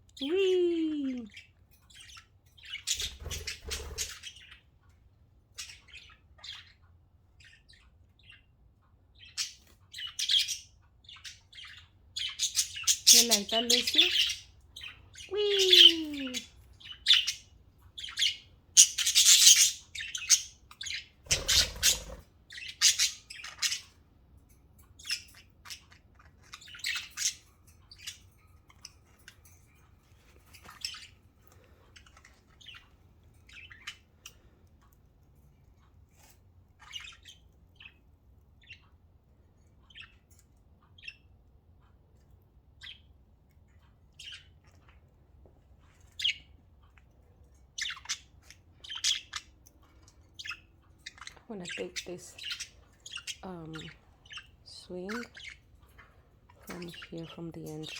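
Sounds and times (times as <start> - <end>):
budgerigars chirping and squawking: 1.1 - 57.9.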